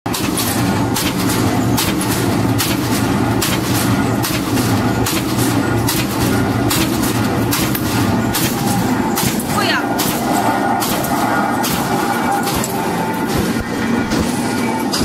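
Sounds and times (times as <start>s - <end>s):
low machine hum: 0.1s - 15.0s
machine blades cutting sheet steel: 0.1s - 15.0s.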